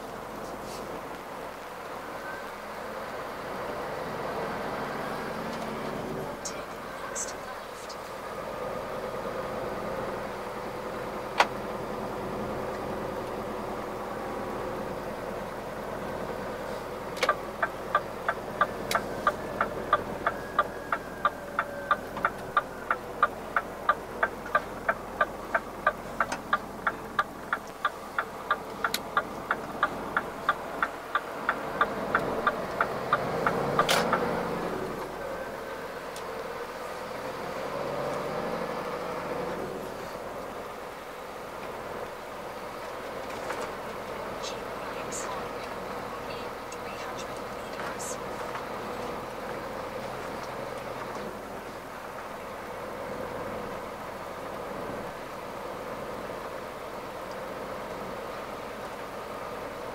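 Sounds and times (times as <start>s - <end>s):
diesel truck engine humming: 0.0s - 59.9s
turn signal ticking: 1.1s - 8.2s, 9.2s - 39.6s, 40.2s - 54.3s.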